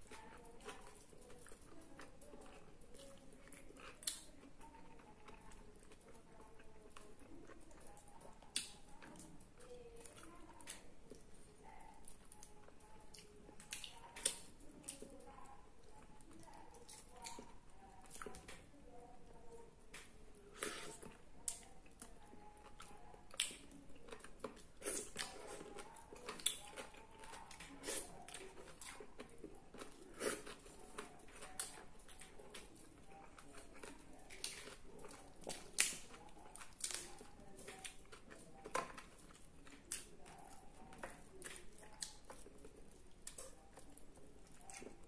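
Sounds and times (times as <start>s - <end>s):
person chewing food: 0.0s - 18.7s, 19.9s - 45.0s.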